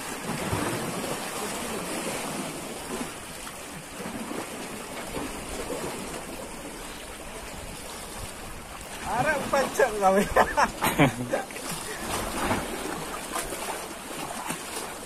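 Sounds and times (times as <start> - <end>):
sea water washing on shore: 0.0 - 15.0.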